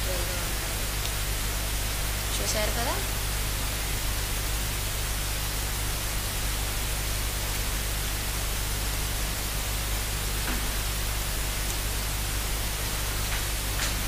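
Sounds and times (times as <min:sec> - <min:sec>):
low electrical hum: 0:00.0 - 0:14.0
steady hiss: 0:00.0 - 0:14.0.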